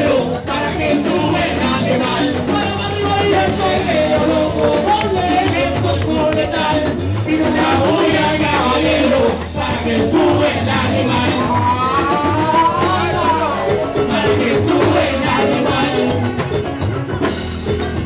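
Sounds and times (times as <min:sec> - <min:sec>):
person singing: 0:00.0 - 0:16.5
live band playing reggaeton: 0:00.0 - 0:18.0.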